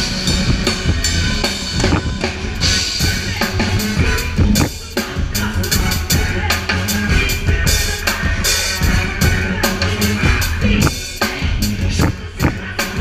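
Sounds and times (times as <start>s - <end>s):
band playing: 0.0s - 13.0s
drum kit playing loud: 0.0s - 13.0s.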